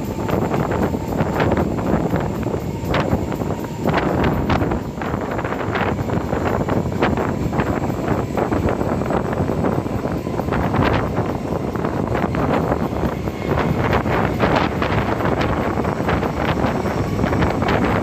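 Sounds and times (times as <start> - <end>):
train rumbling on track: 0.0 - 18.0
wind buffeting microphone: 0.0 - 18.0.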